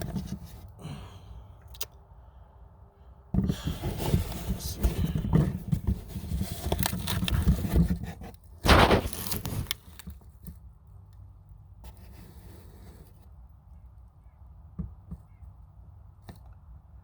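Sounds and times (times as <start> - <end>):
low steady background: 0.0 - 8.7, 9.4 - 17.0.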